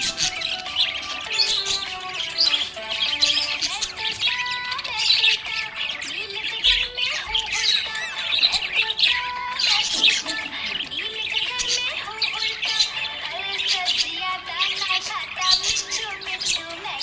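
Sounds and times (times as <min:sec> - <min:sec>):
parrots chattering and squawking: 0:00.0 - 0:17.0.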